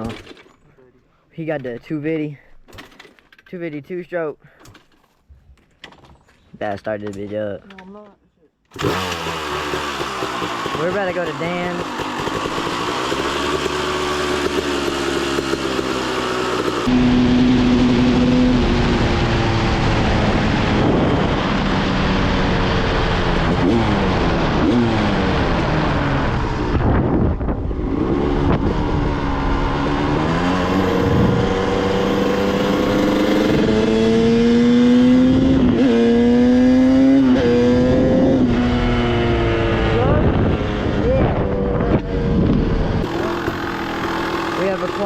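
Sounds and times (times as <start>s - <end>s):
dirt bike engines revving: 8.7s - 45.0s.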